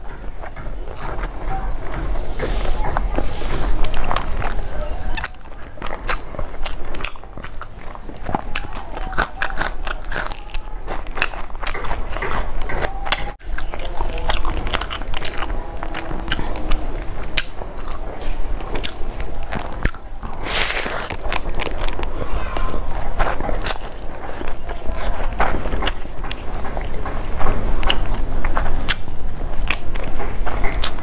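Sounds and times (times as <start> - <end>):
mouth clicks: 0.0 - 31.0
person chewing and crunching food: 0.0 - 31.0.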